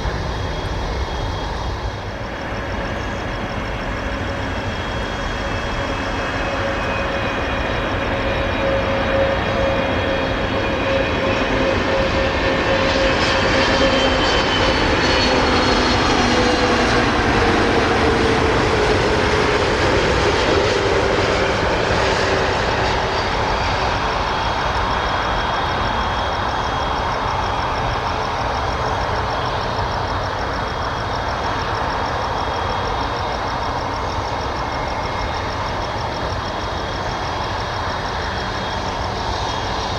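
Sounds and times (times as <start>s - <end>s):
jet airliner passing low: 0.0s - 39.9s.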